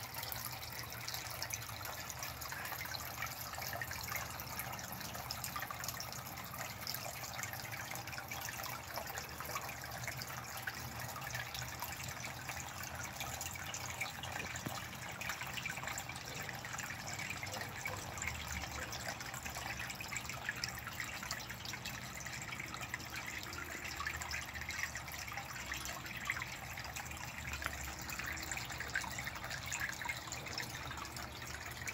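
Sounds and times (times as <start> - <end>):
water dripping: 0.0 - 31.9
water splashing into pond: 0.0 - 31.9.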